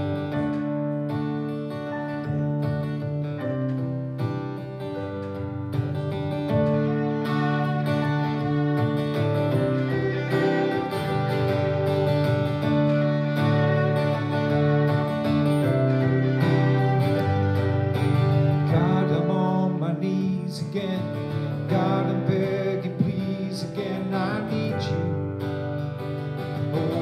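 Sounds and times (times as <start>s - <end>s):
acoustic guitar strumming: 0.0s - 27.0s
keyboard: 0.0s - 27.0s
violin melody: 0.0s - 27.0s.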